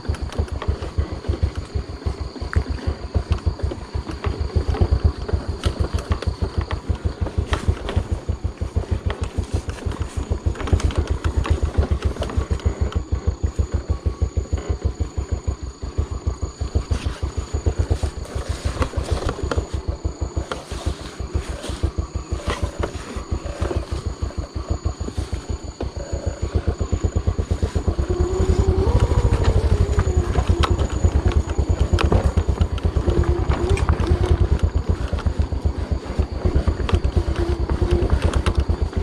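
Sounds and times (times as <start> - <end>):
small motorcycle engine chugging: 0.0 - 39.0.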